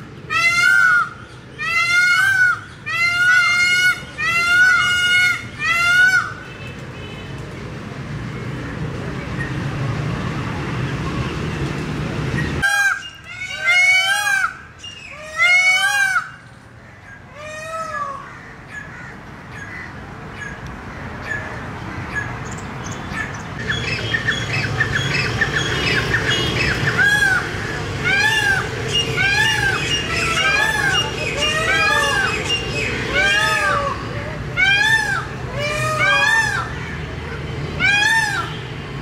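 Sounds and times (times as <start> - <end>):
peacock calls: 0.0 - 6.6, 12.4 - 38.8
steady background noise: 0.0 - 39.0.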